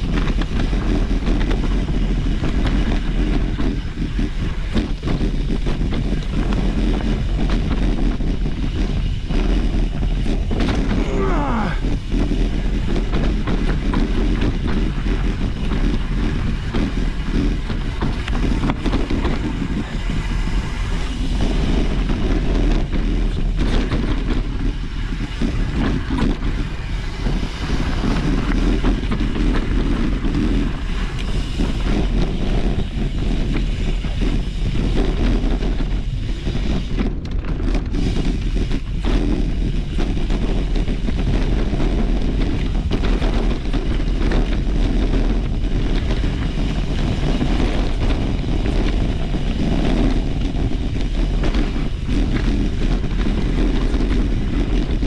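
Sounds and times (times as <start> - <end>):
bike rattling and knocking: 0.0 - 55.0
bike tyres rumbling: 0.0 - 55.0
wind rushing over microphone: 0.0 - 55.0.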